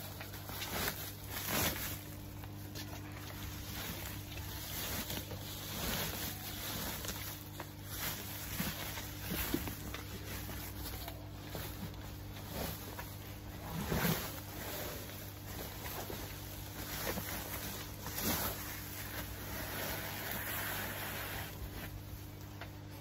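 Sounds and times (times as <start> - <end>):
foil insulation cover rustling: 0.0 - 23.0.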